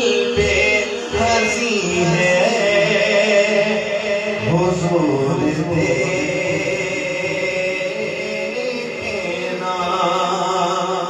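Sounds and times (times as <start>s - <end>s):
backing vocal drone: 0.0s - 11.0s
chanted vocal melody: 0.0s - 11.0s.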